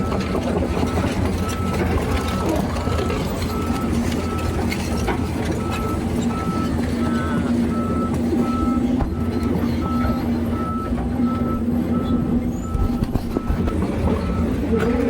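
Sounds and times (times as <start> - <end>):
heavy diesel engine running: 0.0 - 15.0
backup alarm beeping: 0.9 - 14.6.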